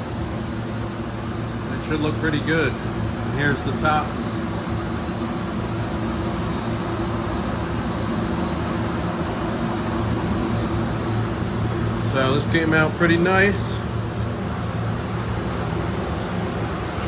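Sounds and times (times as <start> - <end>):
ventilation fan running: 0.0 - 17.0.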